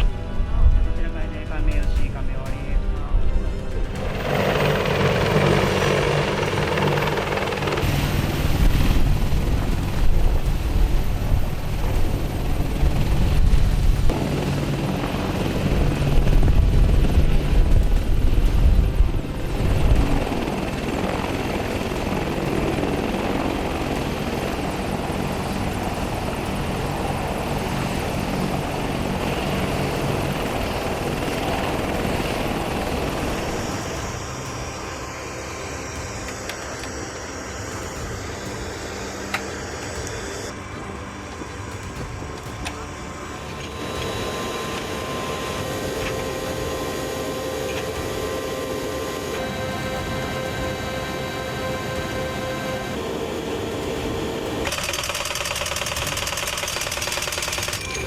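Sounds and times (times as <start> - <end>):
helicopter rotor thrumming: 0.0 - 58.0
helicopter turbine noise: 0.0 - 58.0.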